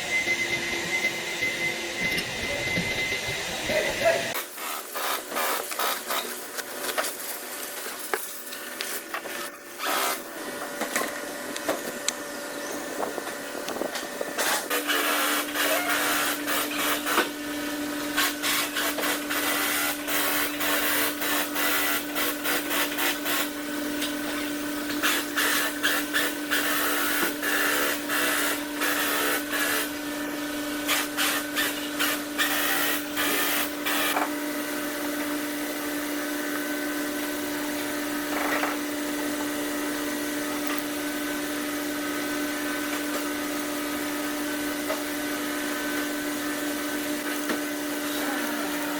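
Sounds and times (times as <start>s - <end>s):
steady mechanical hum: 0.0s - 48.9s.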